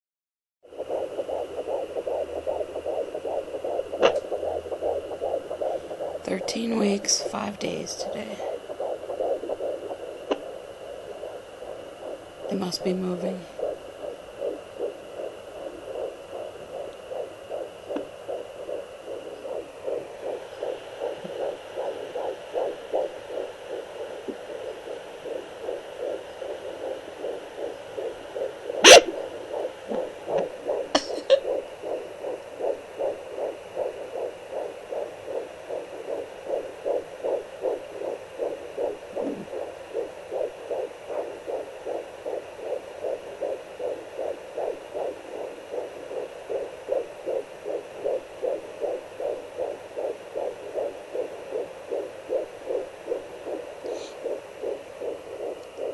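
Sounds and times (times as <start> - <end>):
fast fetal heartbeat pulses: 0.6 - 55.9
faint speaker hiss: 0.8 - 55.9.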